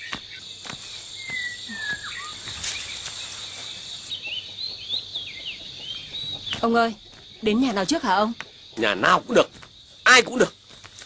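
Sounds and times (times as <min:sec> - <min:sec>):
birds calling: 0:00.0 - 0:11.0
high insect drone: 0:00.0 - 0:11.0.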